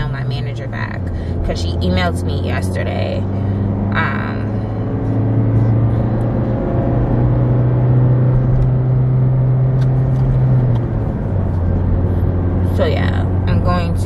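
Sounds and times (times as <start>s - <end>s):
car engine hum: 0.0s - 14.0s
tyre road noise: 0.0s - 14.0s.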